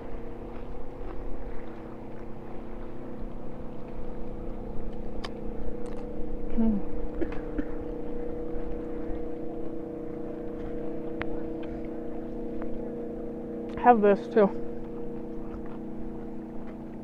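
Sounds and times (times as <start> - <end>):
speedboat engine droning: 0.0 - 17.0.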